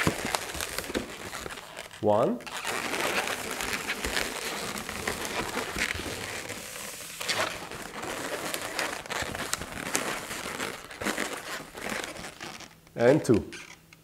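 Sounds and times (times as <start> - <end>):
balloons rubbing and crinkling: 0.0 - 12.8.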